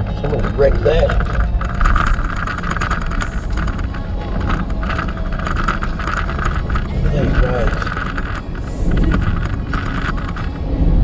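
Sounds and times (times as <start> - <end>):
small irregular ticks: 0.0 - 10.6
truck road and engine rumble: 0.0 - 11.0.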